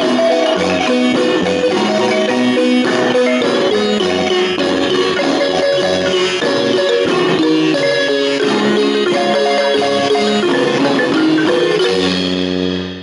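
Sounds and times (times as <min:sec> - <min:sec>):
marimba band playing: 0:00.0 - 0:13.0.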